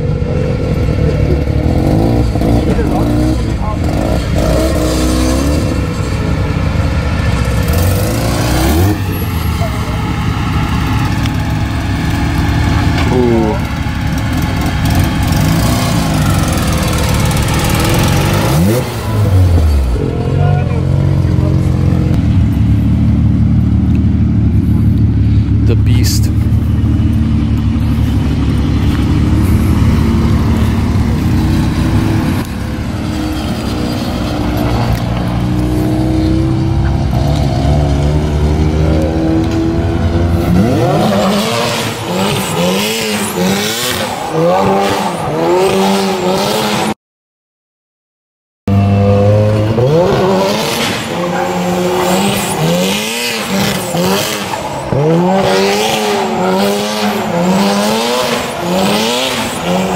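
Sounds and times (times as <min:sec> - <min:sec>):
rotary engine revving: 0:00.0 - 0:47.0, 0:48.7 - 0:59.9
tires squealing: 0:00.7 - 0:22.2, 0:26.0 - 0:46.9, 0:48.8 - 0:59.9.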